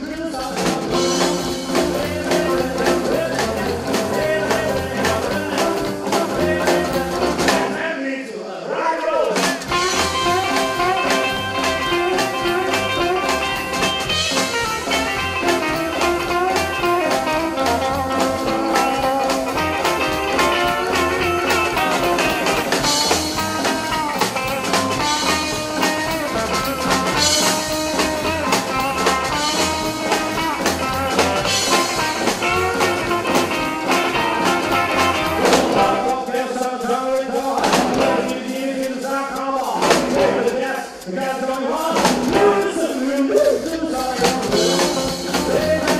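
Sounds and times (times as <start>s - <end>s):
electric guitars: 0.0s - 7.8s, 9.4s - 45.9s
driving drum beat: 0.0s - 7.9s, 9.2s - 45.9s
upright double bass: 0.6s - 7.8s, 9.4s - 36.4s, 37.6s - 38.5s, 39.8s - 40.6s, 41.9s - 45.9s.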